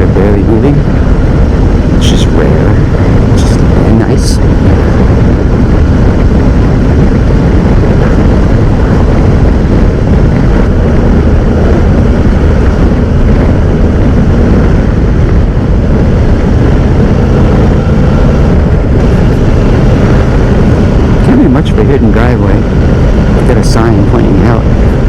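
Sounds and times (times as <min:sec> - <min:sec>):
motorcycle engine humming: 0:00.0 - 0:25.0
wind rushing over microphone: 0:00.0 - 0:25.0.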